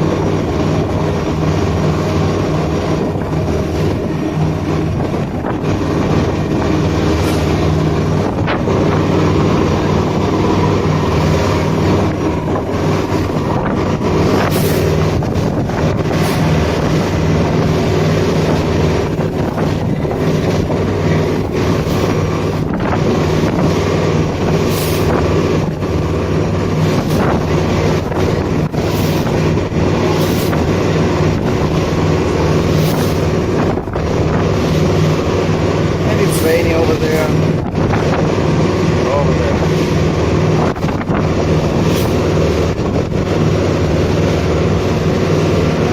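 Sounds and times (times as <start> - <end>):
motorboat engine running: 0.0 - 45.9
wind buffeting microphone: 0.0 - 45.9.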